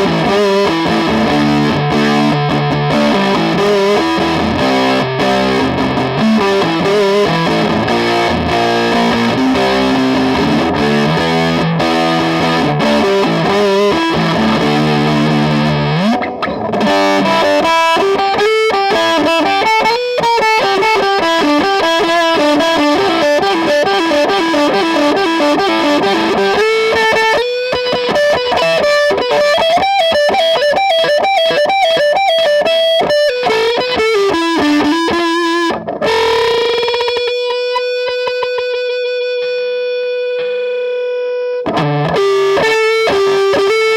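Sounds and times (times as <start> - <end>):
distorted electric guitar: 0.0 - 43.9.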